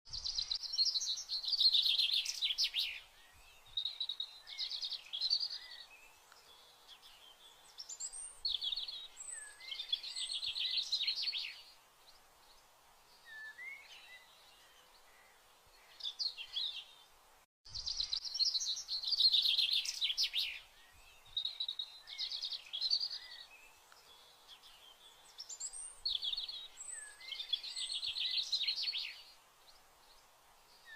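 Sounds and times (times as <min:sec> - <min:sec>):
birds chirping and trilling: 0:00.1 - 0:30.9.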